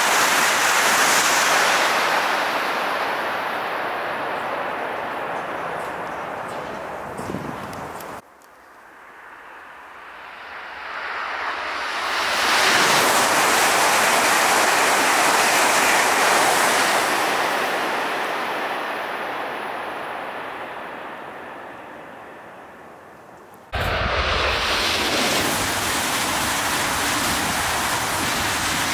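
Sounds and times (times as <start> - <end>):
bullet train passing: 0.0 - 8.2, 8.8 - 23.0, 23.7 - 28.9.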